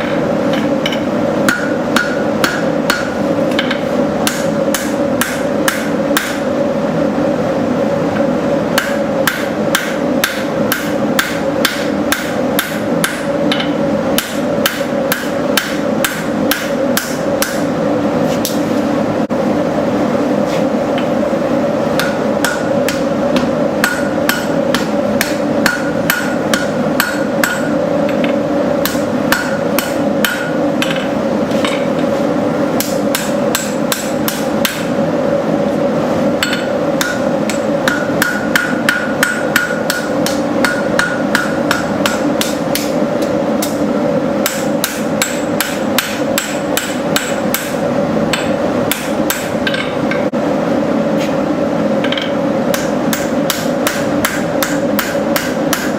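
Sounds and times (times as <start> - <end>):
hammer striking steel on anvil: 0.0 - 6.5, 8.7 - 17.7, 21.9 - 32.0, 32.8 - 34.9, 36.4 - 50.3, 52.0 - 55.9.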